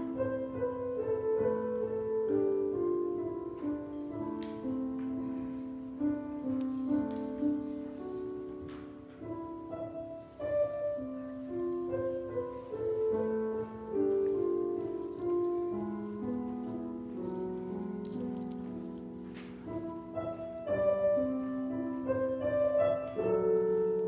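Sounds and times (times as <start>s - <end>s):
slow keyboard music: 0.0s - 24.0s.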